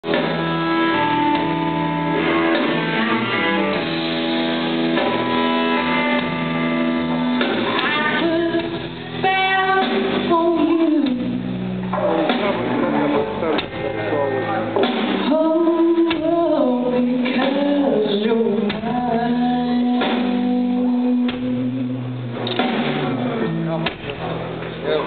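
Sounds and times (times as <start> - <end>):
bass guitar: 0.0 - 25.0
drums: 0.0 - 25.0
electric guitar: 0.0 - 25.0.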